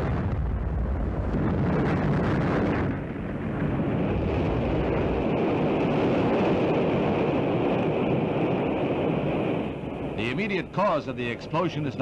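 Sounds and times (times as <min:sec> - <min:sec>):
rocket explosion rumble: 0:00.0 - 0:10.6.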